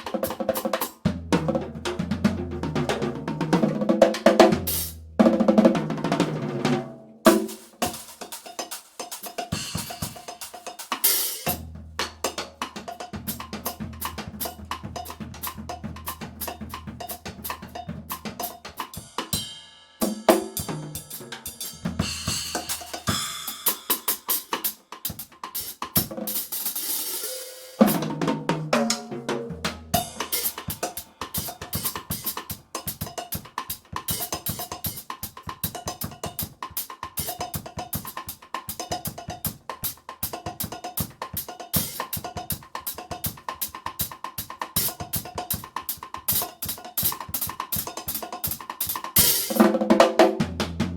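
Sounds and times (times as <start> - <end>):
drum kit playing fast groove: 0.0 - 50.9.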